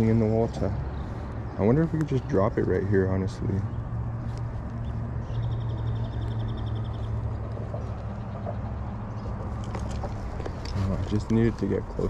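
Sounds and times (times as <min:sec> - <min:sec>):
city traffic hum: 0:00.0 - 0:12.0.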